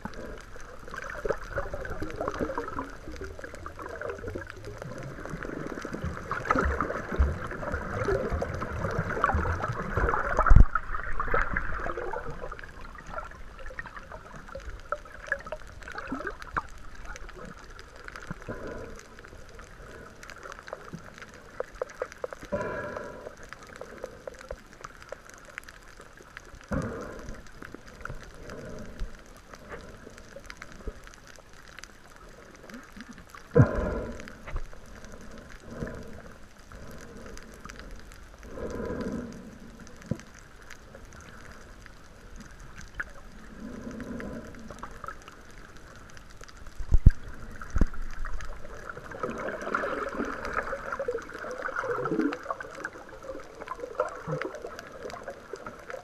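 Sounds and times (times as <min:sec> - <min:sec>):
muffled water sloshing and gurgling: 0:00.0 - 0:56.0.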